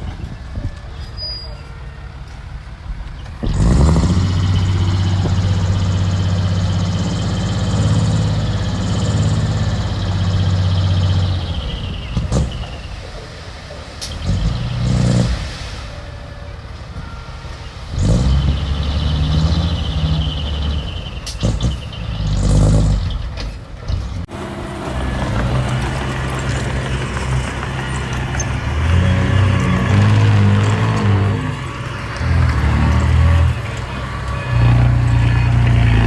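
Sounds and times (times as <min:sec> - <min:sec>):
diesel engine revving: 0:01.1 - 0:36.0.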